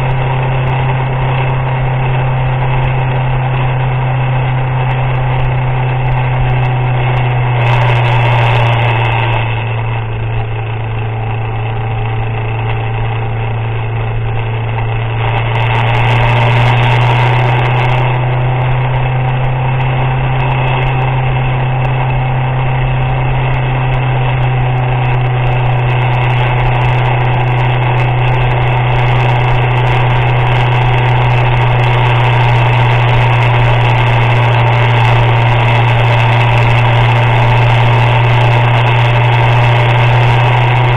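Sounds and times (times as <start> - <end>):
vehicle engine droning: 0.0 - 40.9
wet road noise: 0.0 - 40.9
wind noise: 0.0 - 40.9.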